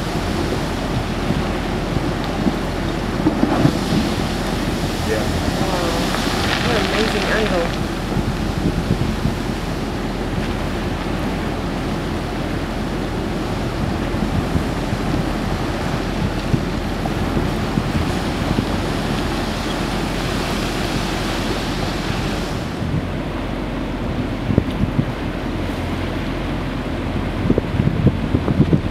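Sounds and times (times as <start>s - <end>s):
sea waves washing: 0.0s - 28.9s
wind buffeting microphone: 0.0s - 28.9s.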